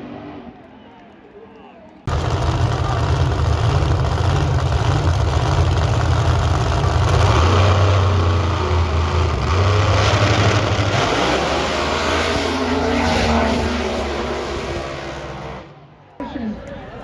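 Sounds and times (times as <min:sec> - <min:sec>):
car engine idling: 0:02.1 - 0:16.3.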